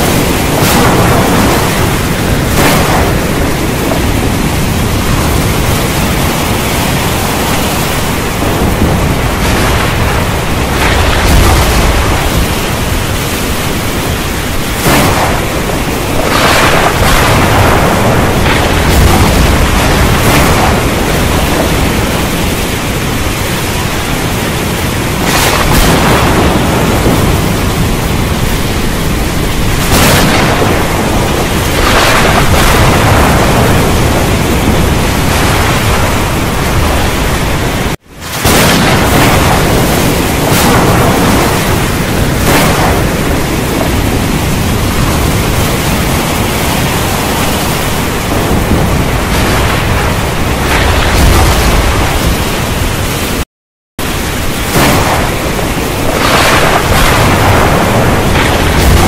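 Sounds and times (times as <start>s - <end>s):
rolling thunder rumbles: 0.0s - 53.4s, 54.0s - 59.0s
thunder cracks: 0.0s - 53.4s, 54.0s - 59.0s
heavy rain: 0.0s - 59.0s.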